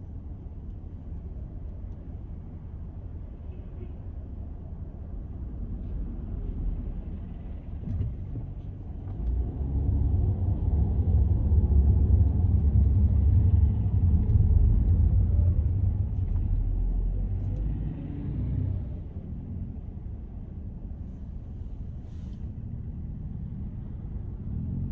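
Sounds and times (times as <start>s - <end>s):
car traffic rumble: 0.0s - 24.9s.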